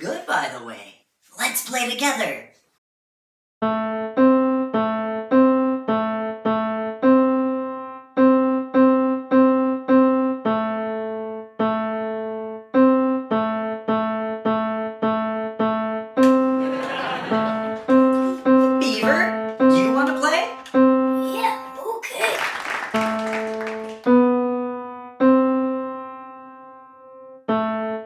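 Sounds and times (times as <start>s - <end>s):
keyboard playing simple tune: 3.6s - 21.8s, 22.9s - 28.0s.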